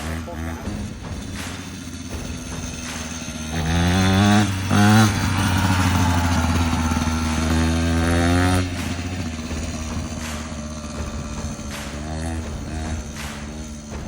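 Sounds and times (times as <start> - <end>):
motocross bike engine accelerating: 0.0 - 14.0.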